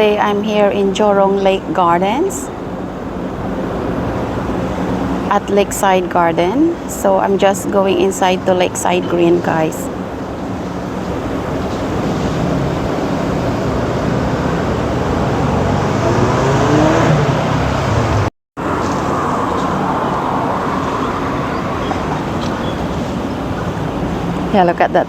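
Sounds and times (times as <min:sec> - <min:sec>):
road traffic noise: 0:00.0 - 0:25.0
passing vehicle engine: 0:01.0 - 0:24.8.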